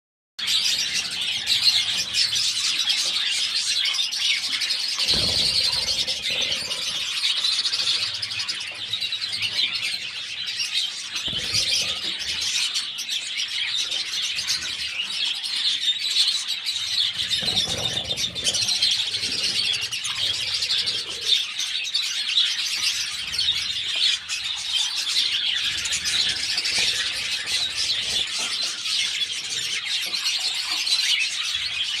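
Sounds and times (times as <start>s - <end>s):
budgerigars chattering and chirping: 0.4s - 32.0s.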